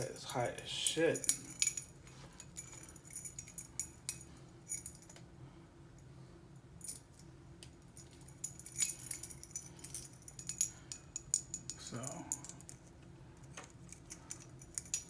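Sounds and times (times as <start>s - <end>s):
metal dog tags clinking: 0.0s - 5.2s, 6.8s - 15.0s.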